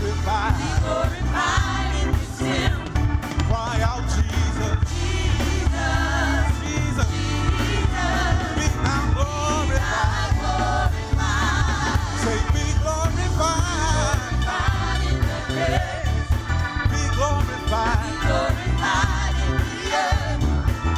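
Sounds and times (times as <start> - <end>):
band with strong bass: 0.0 - 20.9
singers: 0.0 - 20.9.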